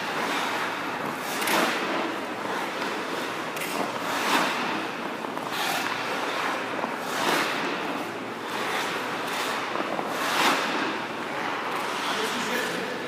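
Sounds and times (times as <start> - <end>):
skates scraping ice: 0.0 - 13.0.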